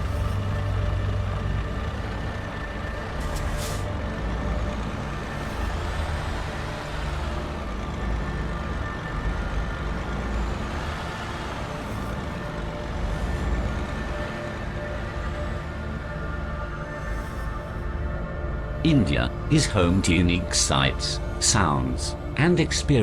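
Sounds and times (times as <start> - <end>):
diesel engine low rumble: 0.0 - 23.0.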